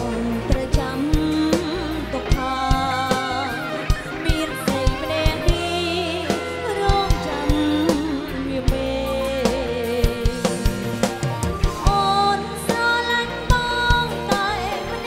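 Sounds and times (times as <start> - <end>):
drum kit: 0.0 - 15.0
electric guitar: 0.0 - 15.0
woman singing: 0.0 - 15.0.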